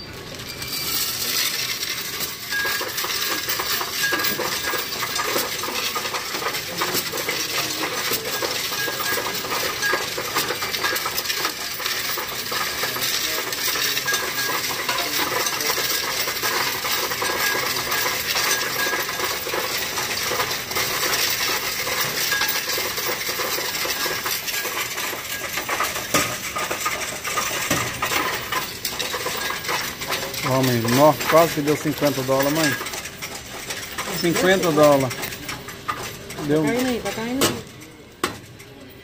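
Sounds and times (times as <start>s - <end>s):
coins clinking through machine: 0.0s - 39.0s.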